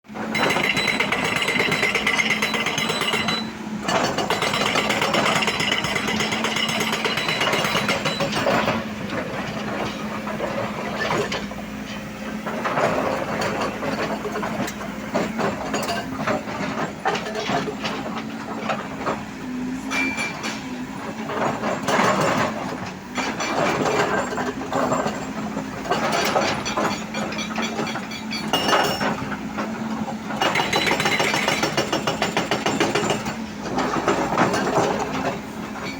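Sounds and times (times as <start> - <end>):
excavator engine and hydraulics: 0.1 - 35.9
metallic knocks and clatter: 0.2 - 19.2, 19.9 - 35.9.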